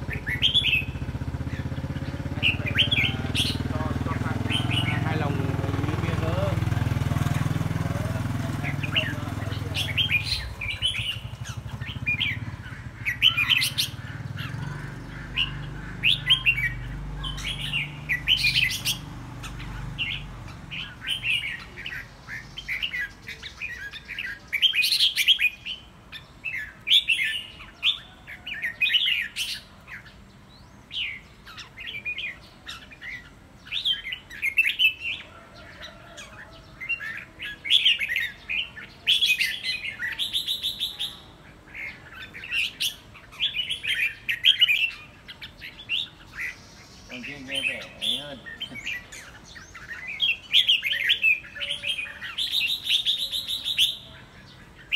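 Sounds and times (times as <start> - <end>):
bird singing chirpy phrases: 0.0 - 54.9.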